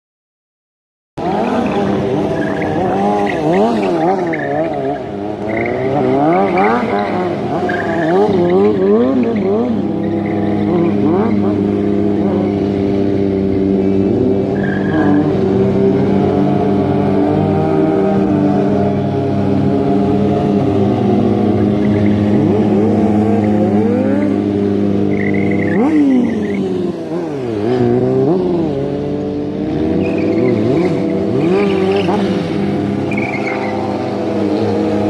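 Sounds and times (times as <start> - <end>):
motorcycle engines revving: 1.2 - 35.0.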